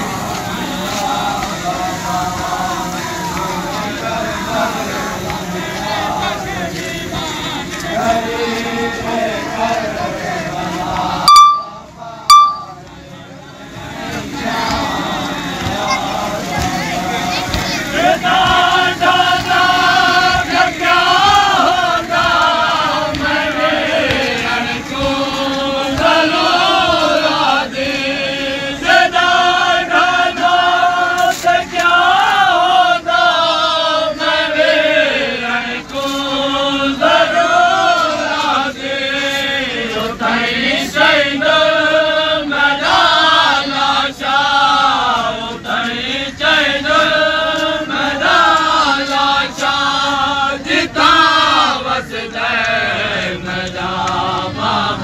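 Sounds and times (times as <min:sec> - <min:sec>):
men chanting a lament: 0:00.0 - 0:55.0.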